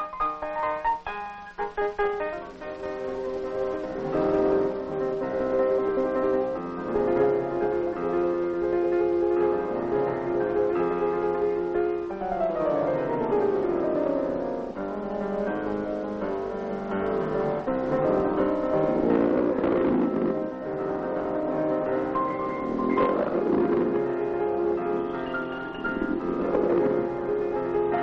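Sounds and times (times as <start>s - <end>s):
piano playing chords: 0.0s - 28.0s.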